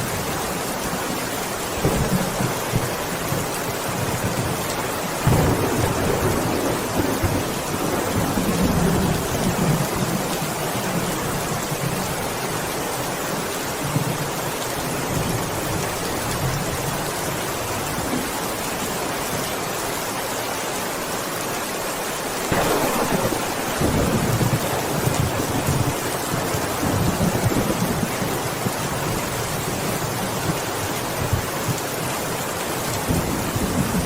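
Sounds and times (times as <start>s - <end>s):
heavy rain hissing: 0.0s - 34.0s.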